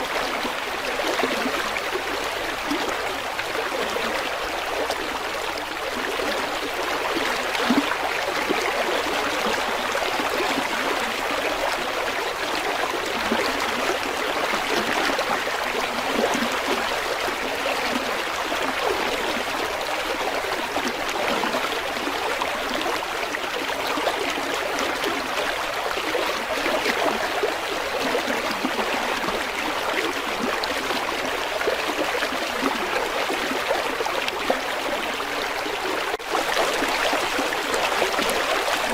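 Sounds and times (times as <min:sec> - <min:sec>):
river water babbling over stones: 0:00.0 - 0:38.9.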